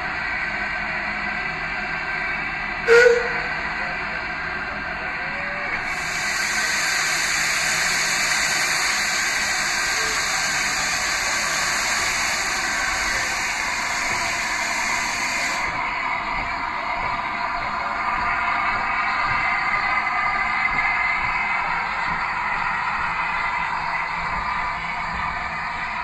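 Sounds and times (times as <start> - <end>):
locomotive steam hiss: 2.8 - 4.6, 5.3 - 26.0.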